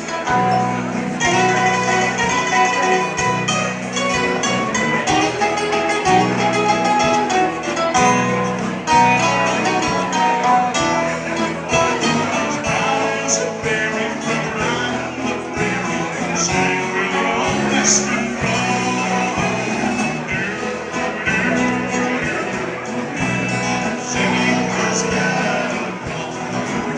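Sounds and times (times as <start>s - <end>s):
country band playing a waltz: 0.0s - 26.9s
person singing: 0.0s - 26.9s.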